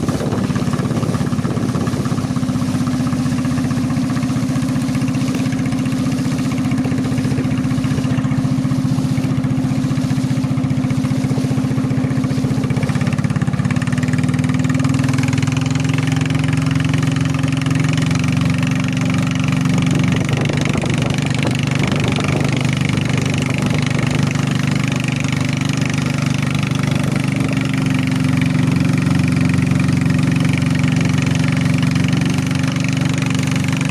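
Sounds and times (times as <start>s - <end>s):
small boat engine running: 0.0s - 33.9s.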